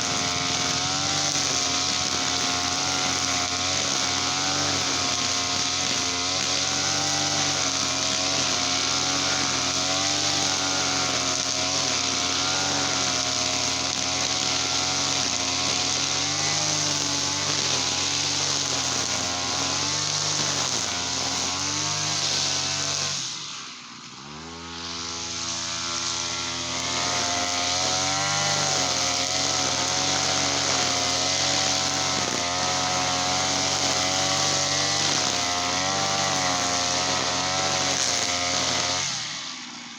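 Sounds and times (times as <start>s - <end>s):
small petrol engine revving: 0.0s - 39.9s.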